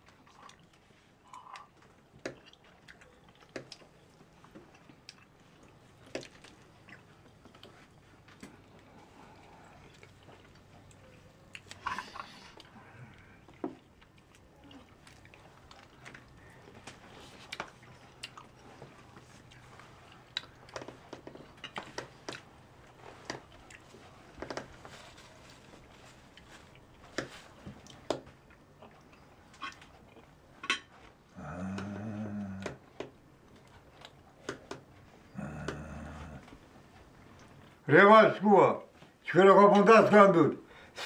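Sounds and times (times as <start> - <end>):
chewing: 0.0 - 37.8.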